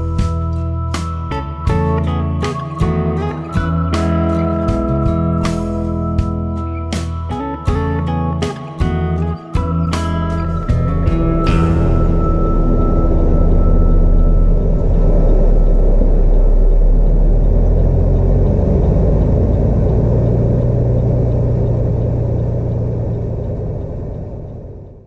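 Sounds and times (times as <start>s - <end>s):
road noise: 0.0s - 25.0s
truck diesel rumble: 0.0s - 25.0s.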